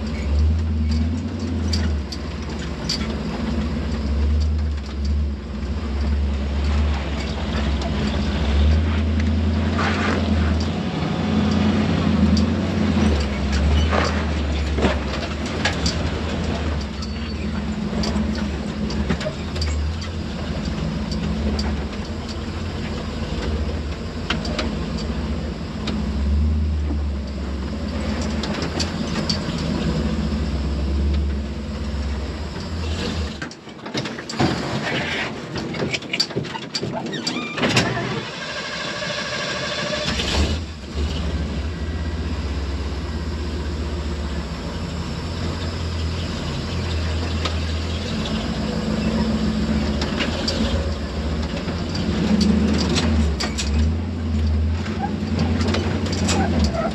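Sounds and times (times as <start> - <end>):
clicks and knocks from tyres: 0.0 - 10.8, 11.4 - 26.2, 26.8 - 38.3, 45.4 - 56.9
truck engine running low: 0.0 - 56.9.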